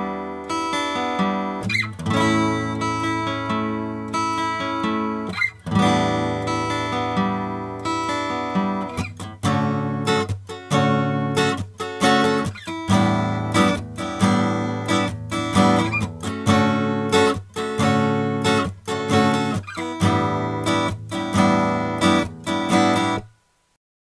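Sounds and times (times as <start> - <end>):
acoustic guitar strumming: 0.0 - 23.6.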